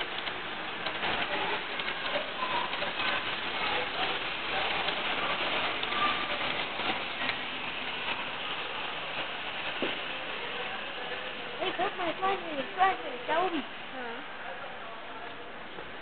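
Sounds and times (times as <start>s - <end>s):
model train wheels rattling: 0.0s - 13.8s
faint voices: 0.0s - 16.0s.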